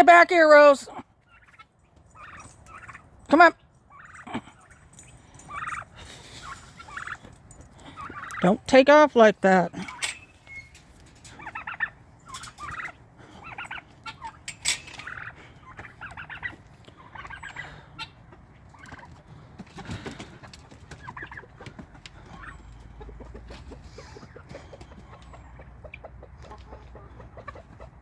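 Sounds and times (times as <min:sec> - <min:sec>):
chickens clucking: 0:00.1 - 0:28.0
turkeys gobbling: 0:00.6 - 0:09.1, 0:09.7 - 0:28.0.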